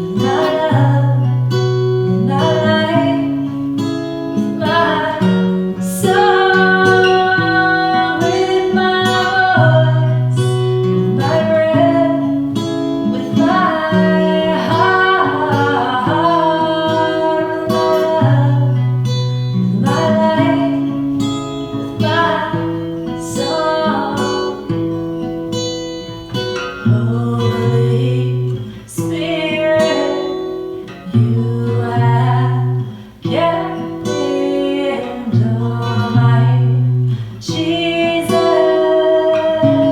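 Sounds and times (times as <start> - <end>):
woman singing: 0.0 - 24.9, 26.3 - 39.9
acoustic guitar strumming: 0.0 - 39.9.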